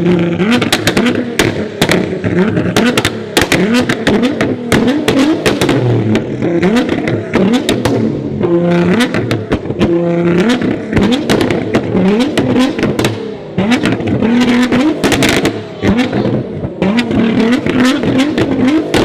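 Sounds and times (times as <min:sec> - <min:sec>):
exhaust cracks and pops: 0:00.0 - 0:19.0
sports car engine revving: 0:00.0 - 0:19.0.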